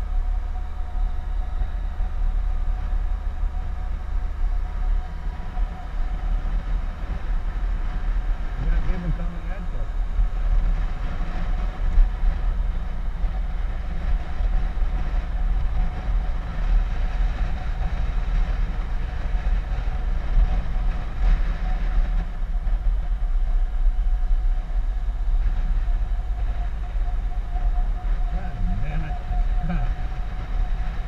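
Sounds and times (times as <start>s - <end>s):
motorcycle engine drone: 0.0s - 31.0s.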